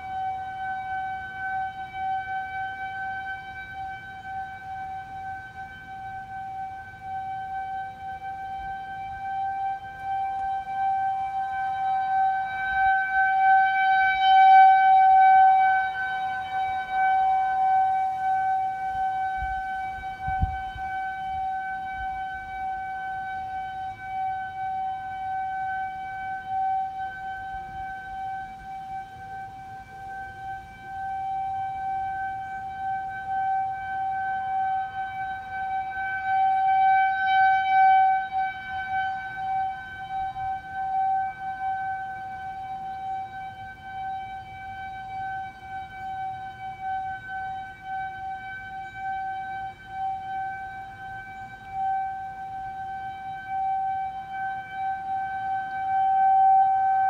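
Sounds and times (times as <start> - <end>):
rotating warning siren tone: 0.0 - 57.0.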